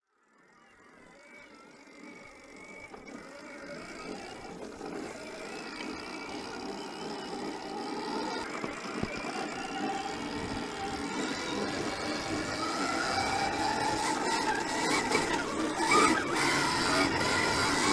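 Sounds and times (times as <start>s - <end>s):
motorbike engine at low revs: 2.9s - 17.9s.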